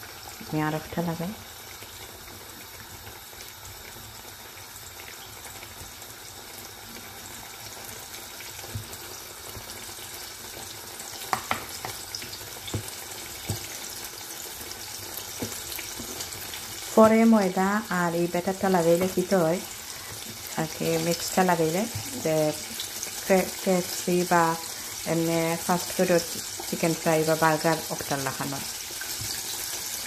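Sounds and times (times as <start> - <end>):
oil sizzling: 0.0 - 30.0.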